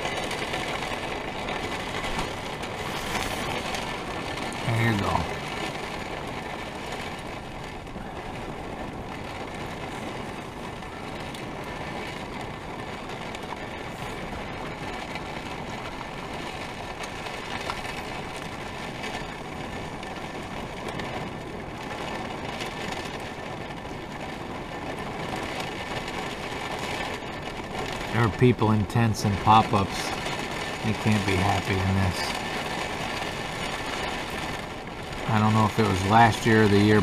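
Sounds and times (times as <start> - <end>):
heavy rain on a roof: 0.0 - 37.0.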